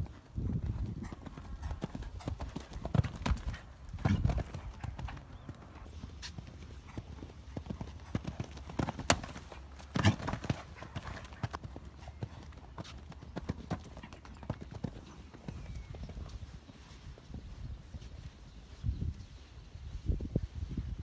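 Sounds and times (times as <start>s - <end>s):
horse hoofbeats on sand: 0.0s - 19.4s.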